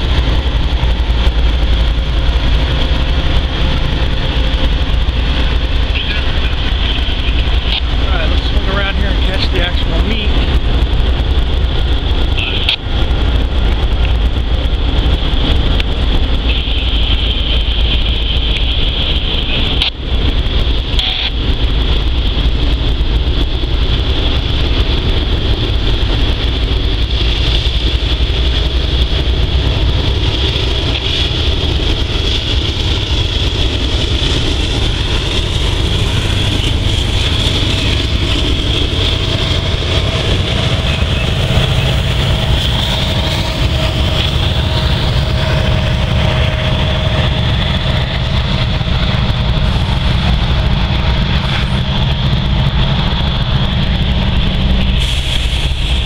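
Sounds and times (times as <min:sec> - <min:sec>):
locomotive engines running: 0:00.0 - 0:56.0.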